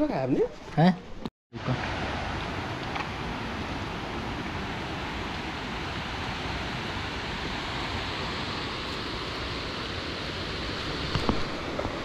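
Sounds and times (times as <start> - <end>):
fast-running mountain water: 1.6 - 12.0.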